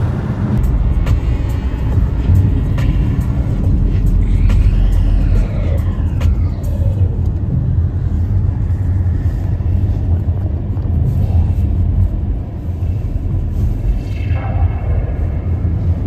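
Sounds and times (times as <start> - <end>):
car tyres and engine rumble: 0.0 - 16.0.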